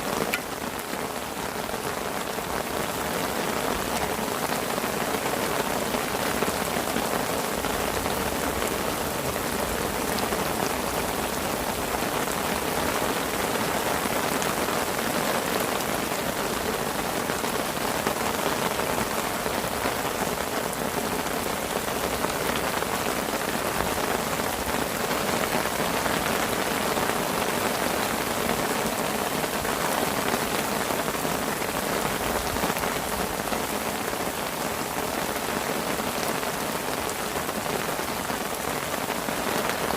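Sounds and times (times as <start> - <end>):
heavy rain on a parasol: 0.0 - 39.9.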